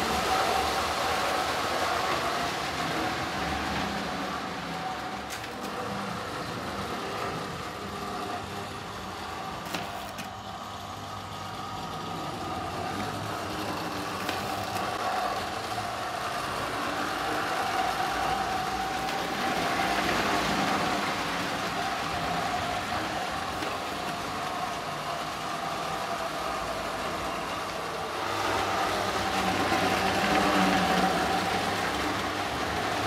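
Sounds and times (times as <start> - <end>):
model train wheels rumbling: 0.0 - 33.0.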